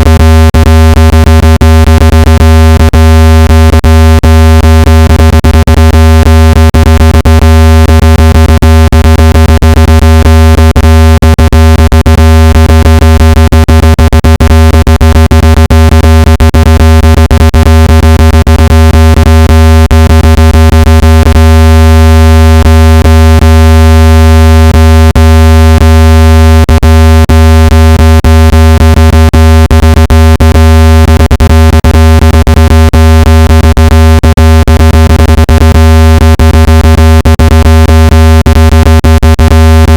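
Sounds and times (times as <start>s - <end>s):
low buzzing electronic tone: 0.0s - 39.9s.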